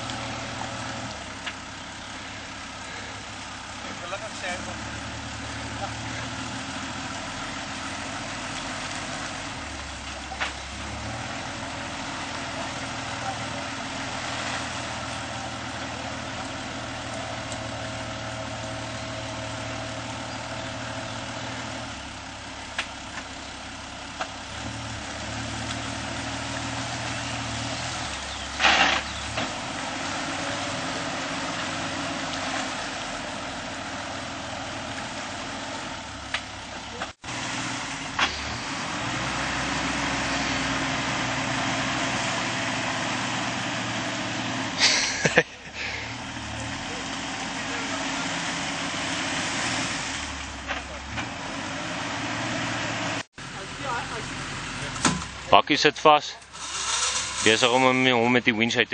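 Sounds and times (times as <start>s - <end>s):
engine running under load: 0.0s - 58.9s.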